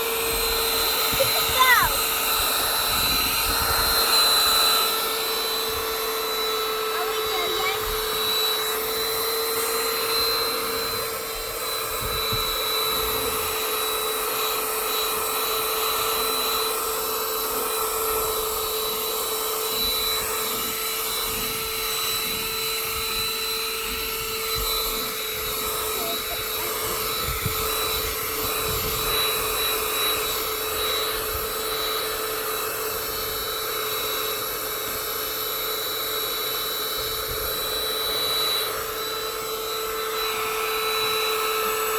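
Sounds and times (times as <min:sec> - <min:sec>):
car vacuum motor whining: 0:00.0 - 0:41.9.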